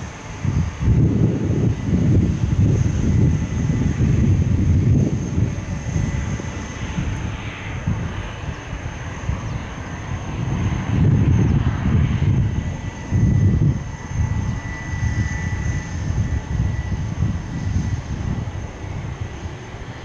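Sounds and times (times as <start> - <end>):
jet airliner engines rumbling: 0.0 - 20.0.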